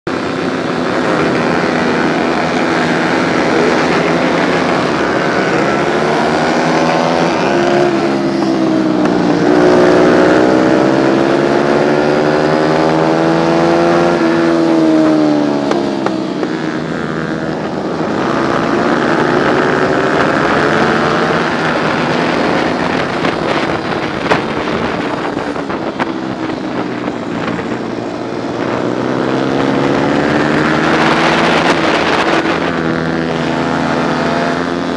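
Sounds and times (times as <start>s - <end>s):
motorcycle engine at full throttle: 0.0s - 34.9s
other motorcycle engines: 0.1s - 34.9s.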